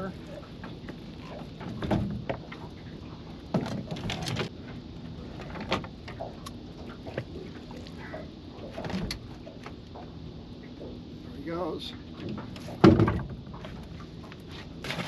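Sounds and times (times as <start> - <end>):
gear clattering in a boat: 0.0 - 15.0
wind and water hiss: 0.0 - 15.0.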